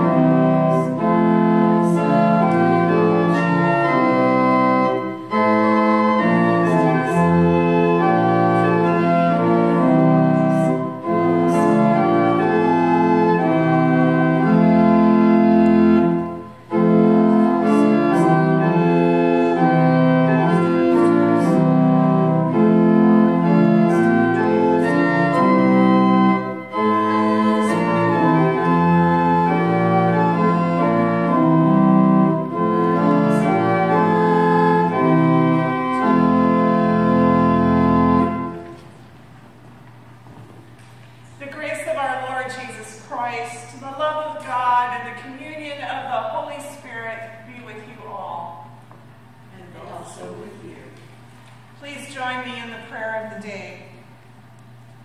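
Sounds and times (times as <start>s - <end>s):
pipe organ playing hymn chords: 0.0s - 55.0s.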